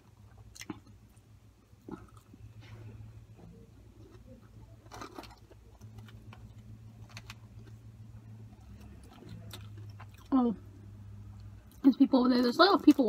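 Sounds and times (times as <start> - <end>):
person chewing fries: 0.0 - 11.8
steady low hum: 0.0 - 13.0.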